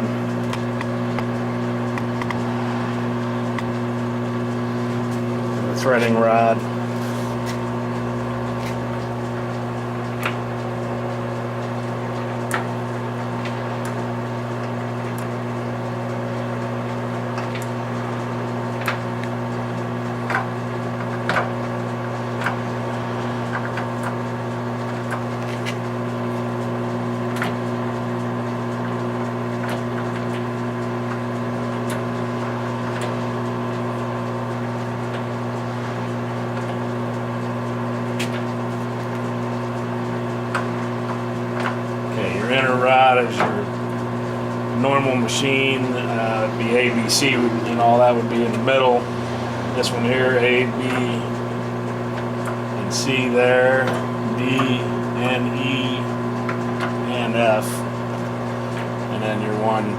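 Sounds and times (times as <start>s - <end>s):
lathe humming: 0.0s - 59.9s.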